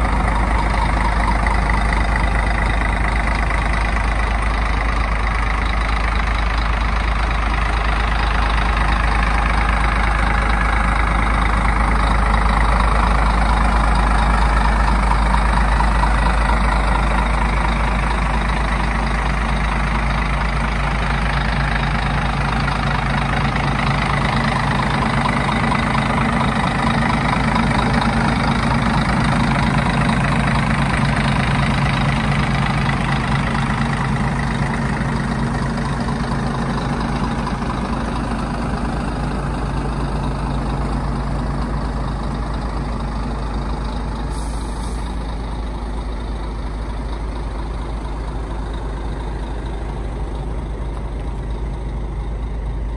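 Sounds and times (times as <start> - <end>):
diesel bus engine idling: 0.0 - 52.9.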